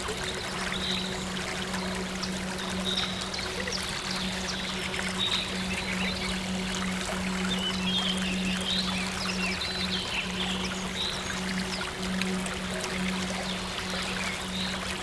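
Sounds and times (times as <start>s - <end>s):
low drone: 0.0s - 15.0s
running water trickling: 0.0s - 15.0s.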